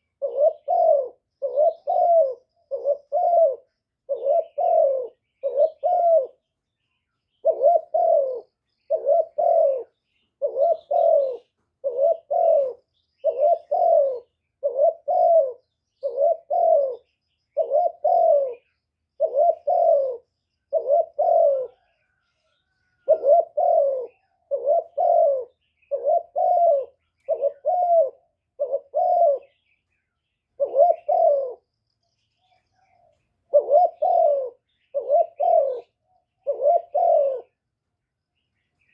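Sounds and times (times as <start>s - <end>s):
dove cooing: 0.0s - 31.7s, 32.4s - 37.7s.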